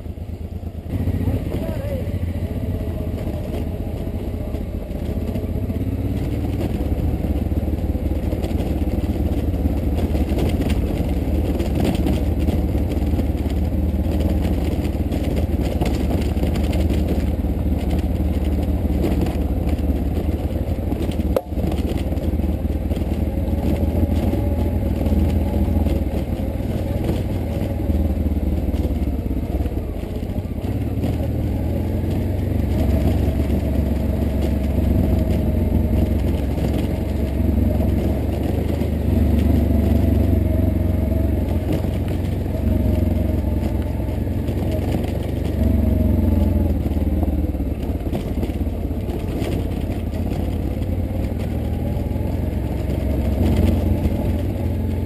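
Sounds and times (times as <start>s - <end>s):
vehicle engine running: 0.0s - 55.0s
wind and road noise: 0.0s - 55.0s
tyres crunching on surface: 0.8s - 55.0s.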